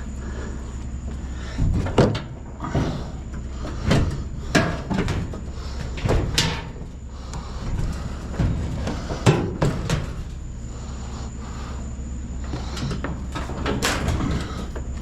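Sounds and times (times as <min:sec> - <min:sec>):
scrap metal knocks and bangs: 0:00.0 - 0:15.0
steady low hum: 0:00.0 - 0:15.0.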